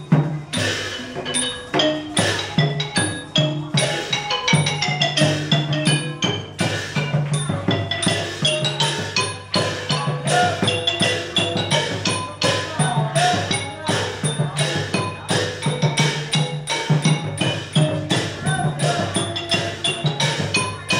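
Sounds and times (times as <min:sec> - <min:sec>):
low barrel drum beat: 0:00.0 - 0:20.9
wooden xylophone runs: 0:00.0 - 0:20.9.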